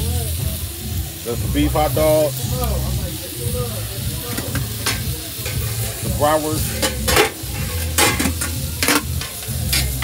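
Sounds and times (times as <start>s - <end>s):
food sizzling in frying: 0.0s - 10.0s.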